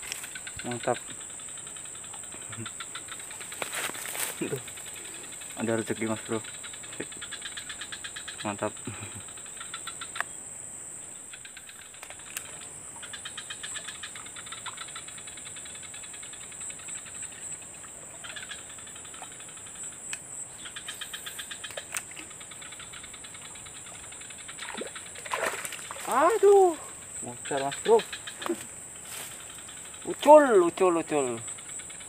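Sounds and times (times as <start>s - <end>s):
insect pulsing trills: 0.0s - 32.0s
insects droning: 0.0s - 32.0s.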